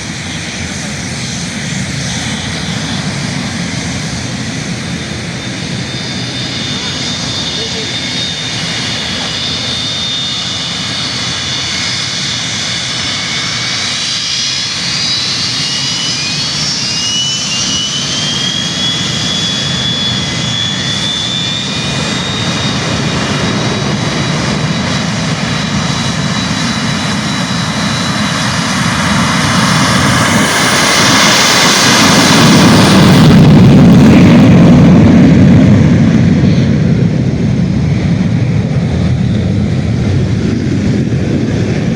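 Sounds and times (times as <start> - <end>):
jet engines spooling up: 0.0 - 41.9.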